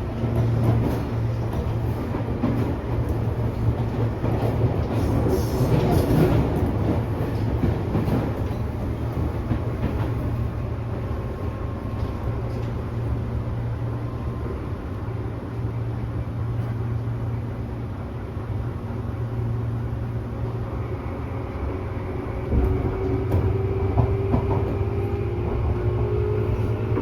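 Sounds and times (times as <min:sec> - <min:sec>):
electric train rumbling: 0:00.0 - 0:27.0.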